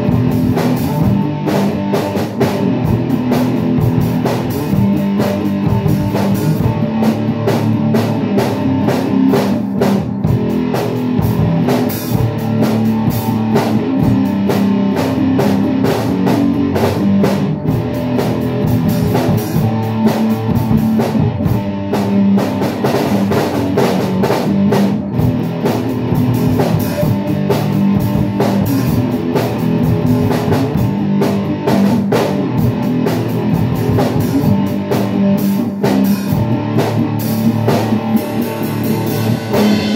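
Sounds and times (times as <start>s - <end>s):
drum beat with cymbals: 0.0s - 39.9s
electric guitar strumming chords: 0.0s - 39.9s.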